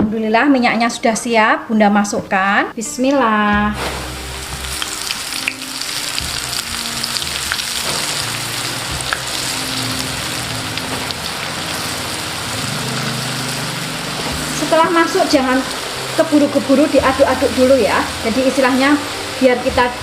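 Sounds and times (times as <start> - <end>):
food sizzling in hot oil: 3.8 - 20.0.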